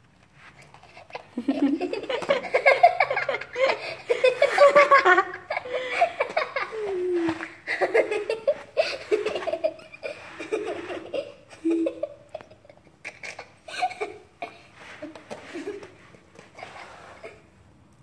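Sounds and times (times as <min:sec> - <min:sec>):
people laughing and giggling: 0:01.1 - 0:17.4.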